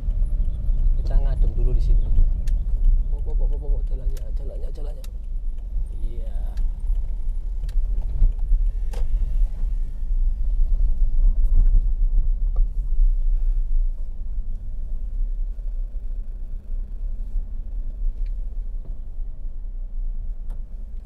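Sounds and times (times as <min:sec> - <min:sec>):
car engine rumbling at low revs: 0:00.0 - 0:21.0.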